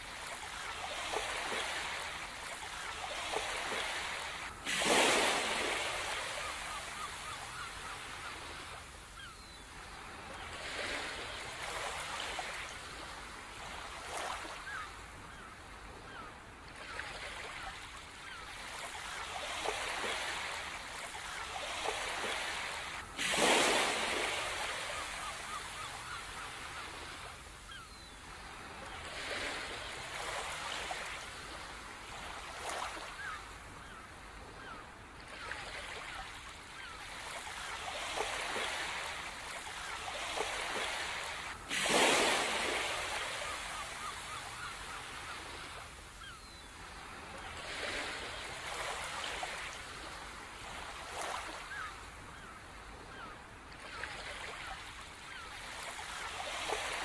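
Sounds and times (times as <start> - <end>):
waves washing in: 0.0 - 15.4, 16.8 - 57.0.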